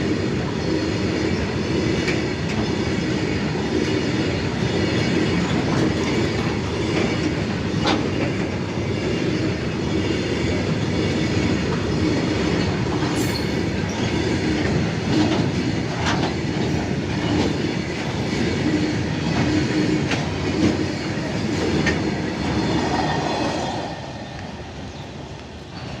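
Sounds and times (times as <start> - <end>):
train wagons rolling over rails: 0.0 - 26.0.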